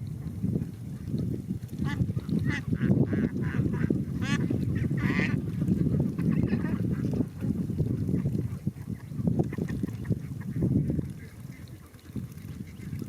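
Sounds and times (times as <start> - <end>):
ducks quacking and honking: 1.8 - 13.0.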